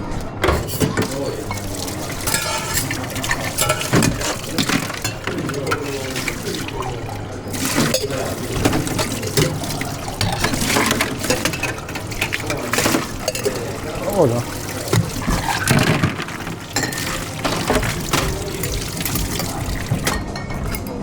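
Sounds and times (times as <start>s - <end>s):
bar tools and glassware clinking: 0.0s - 21.0s
liquid poured into a glass: 1.0s - 20.8s.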